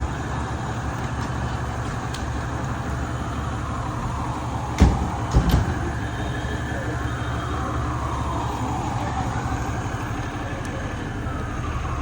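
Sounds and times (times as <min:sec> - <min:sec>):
vehicle motor rumble: 0:00.0 - 0:12.0.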